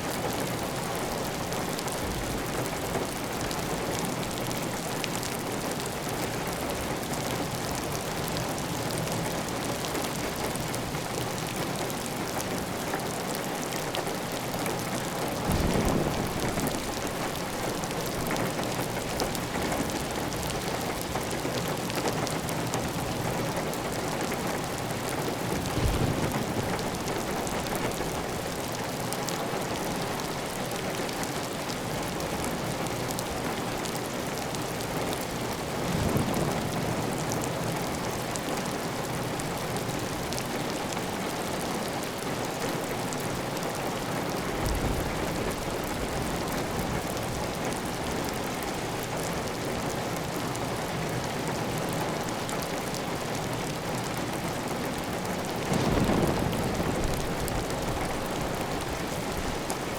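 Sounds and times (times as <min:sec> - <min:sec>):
heavy rain on a tile roof: 0:00.0 - 0:59.9.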